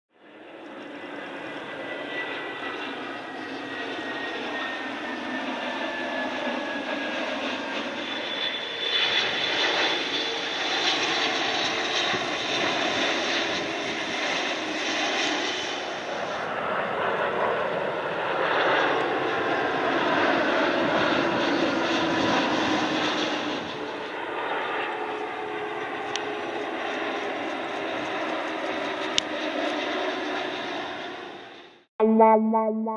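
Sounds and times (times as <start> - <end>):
jet airliners passing: 0.8 - 31.6.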